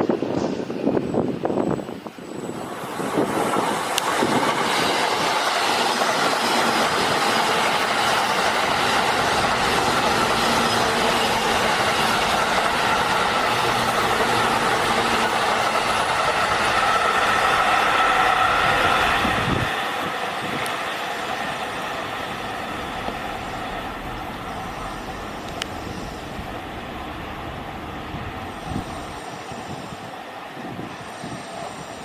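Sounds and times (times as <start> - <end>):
train wheels running on rails: 0.0 - 32.0
wind buffeting microphone: 0.0 - 32.0.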